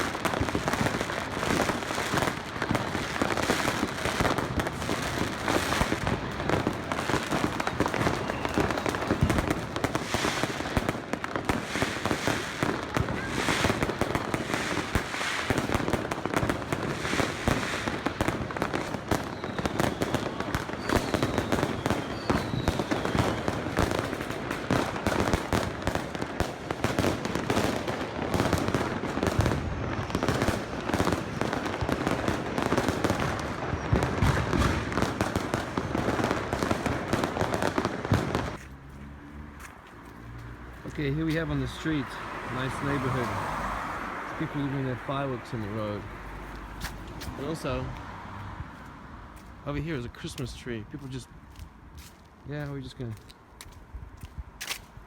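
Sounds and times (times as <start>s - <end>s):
fireworks banging and crackling: 0.0s - 55.0s.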